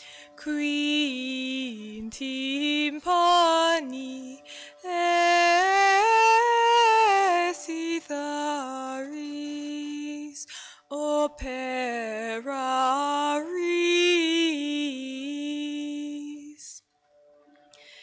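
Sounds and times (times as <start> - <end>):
bowed fiddle: 0.0 - 18.0
woman chanting: 0.4 - 16.8.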